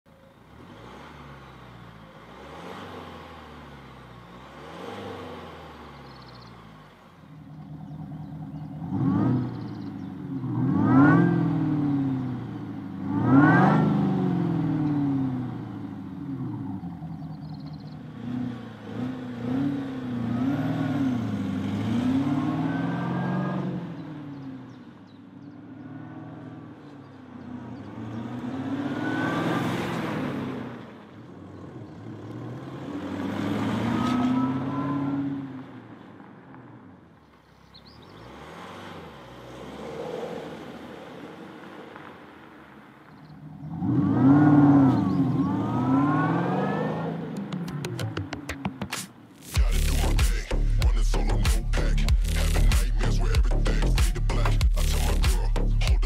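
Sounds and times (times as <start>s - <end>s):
car engine revving: 0.2s - 36.0s, 37.6s - 56.0s.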